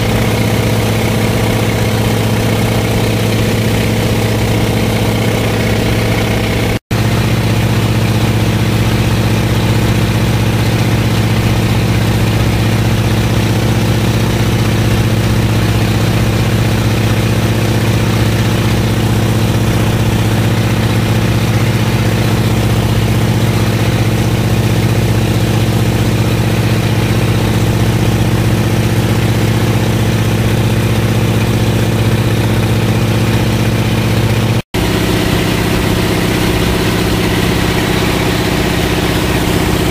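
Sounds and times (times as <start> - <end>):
plane engine and propeller droning: 0.0 - 39.9.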